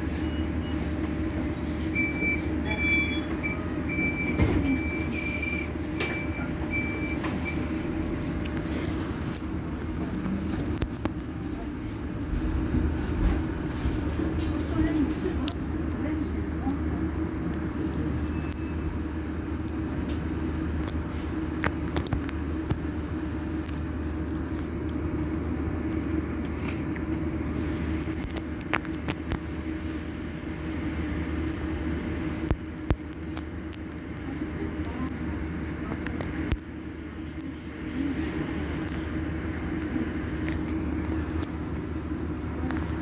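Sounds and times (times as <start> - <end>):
electric bus low hum: 0.0 - 43.0.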